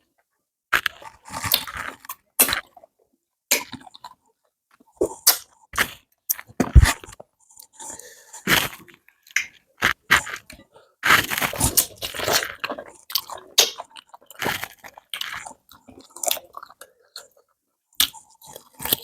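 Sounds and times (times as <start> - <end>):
crunchy chewing of food: 0.7 - 2.9, 3.5 - 19.0.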